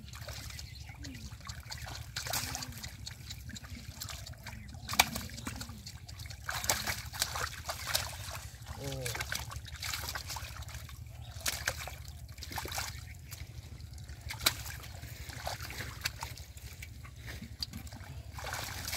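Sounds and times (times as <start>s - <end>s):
hands splashing in muddy water: 0.0s - 18.9s.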